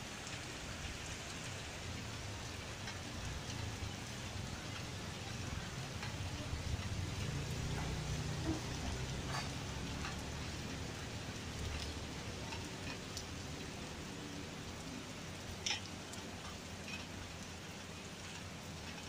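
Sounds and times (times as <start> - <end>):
light rain hissing: 0.0 - 19.0
raindrops tapping: 0.0 - 19.0.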